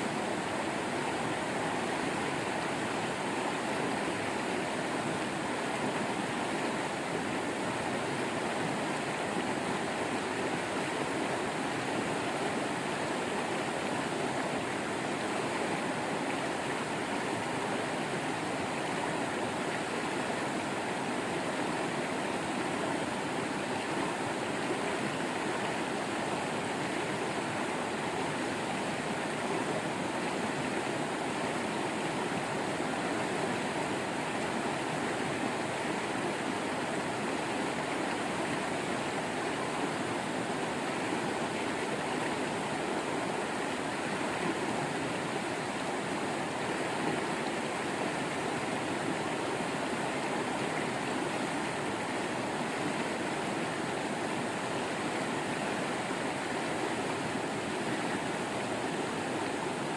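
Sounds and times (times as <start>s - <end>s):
small waterfall splashing: 0.0s - 59.9s.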